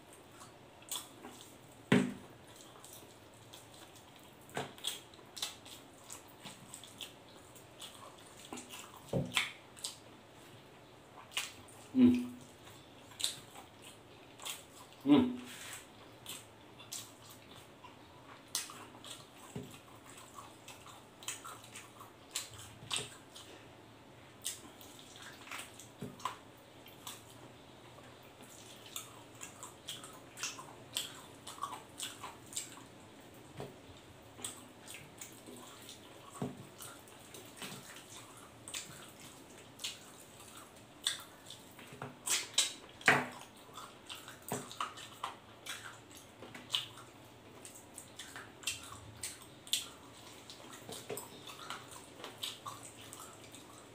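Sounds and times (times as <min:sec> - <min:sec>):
wet chewing and lip smacking: 0:00.1 - 0:23.6, 0:24.4 - 0:53.9.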